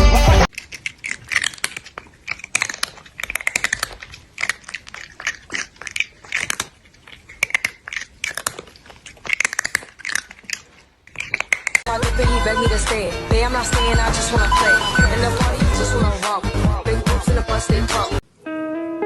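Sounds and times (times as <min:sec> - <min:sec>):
crunchy chewing: 0:00.5 - 0:16.2.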